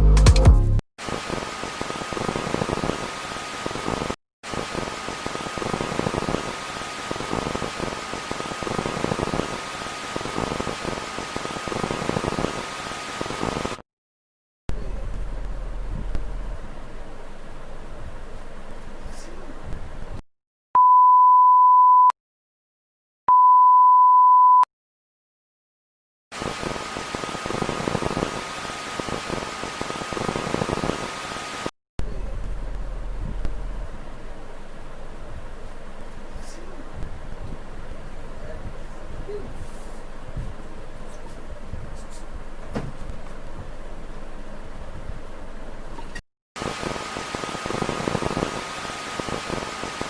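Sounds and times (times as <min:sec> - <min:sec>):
white noise hiss: 0:01.0 - 0:13.8, 0:14.7 - 0:20.2, 0:26.4 - 0:50.0.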